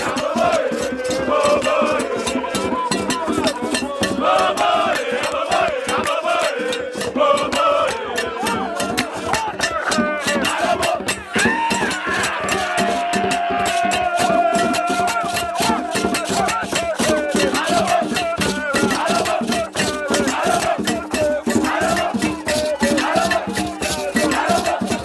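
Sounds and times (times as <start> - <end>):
group singing: 0.0 - 25.0
shakers and percussion: 0.0 - 25.0.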